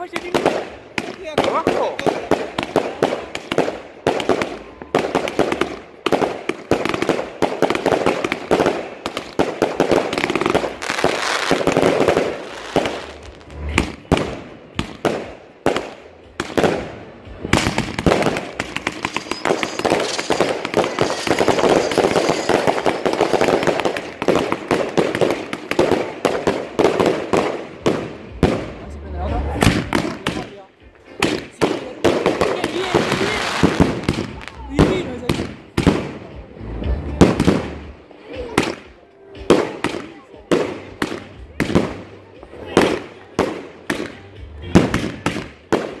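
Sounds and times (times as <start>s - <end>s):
fireworks launching and bursting: 0.0s - 46.0s.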